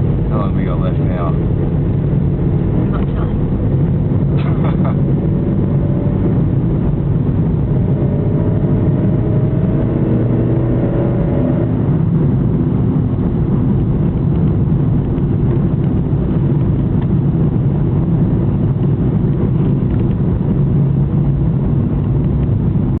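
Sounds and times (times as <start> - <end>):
car engine running: 0.0 - 23.0
road noise inside car: 0.0 - 23.0.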